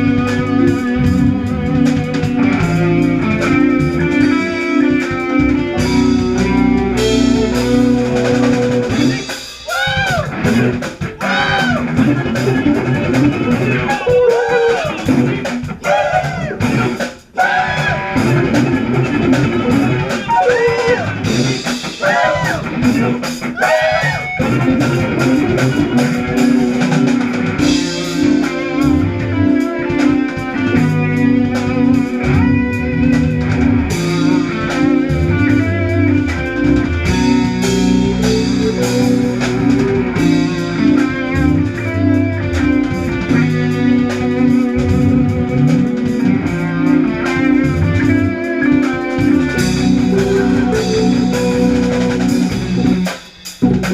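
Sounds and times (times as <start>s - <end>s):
jazz fusion band playing: 0.0s - 53.9s.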